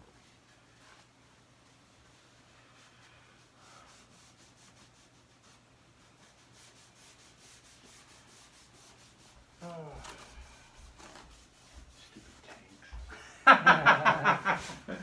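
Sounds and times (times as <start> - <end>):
paper towel rubbing: 0.0 - 15.0.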